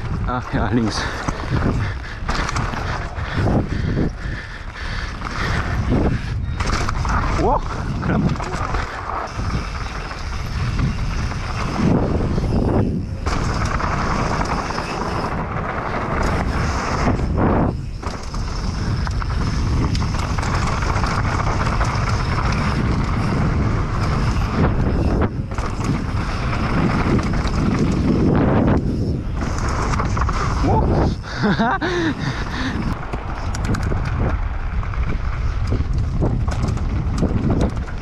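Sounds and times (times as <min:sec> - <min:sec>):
tyres rolling over dirt trail: 0:00.0 - 0:38.0
wind buffeting microphone: 0:00.0 - 0:38.0.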